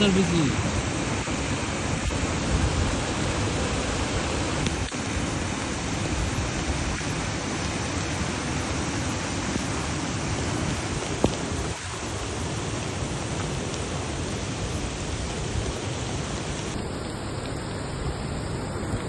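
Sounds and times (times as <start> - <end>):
heavy rain and rushing water: 0.0 - 19.0.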